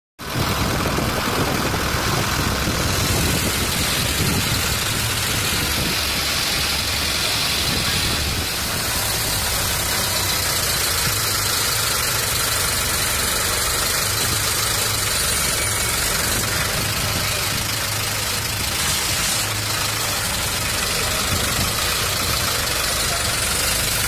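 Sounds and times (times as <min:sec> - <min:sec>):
road noise: 0:00.2 - 0:24.0
truck engine running: 0:00.2 - 0:24.0.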